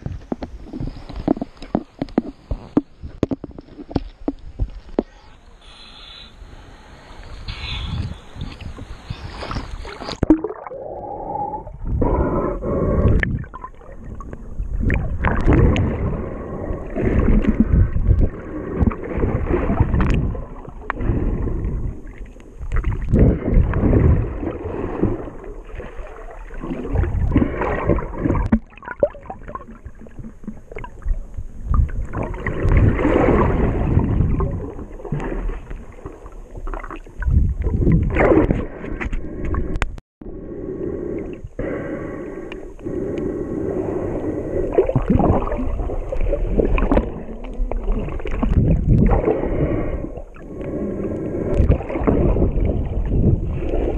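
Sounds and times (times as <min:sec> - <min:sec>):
water at the surface: 0:00.0 - 0:53.9
muffled underwater sloshing: 0:06.4 - 0:53.9.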